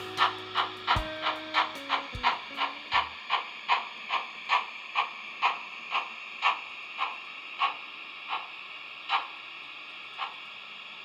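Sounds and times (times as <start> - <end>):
model train wheels clacking: 0.0 - 11.0.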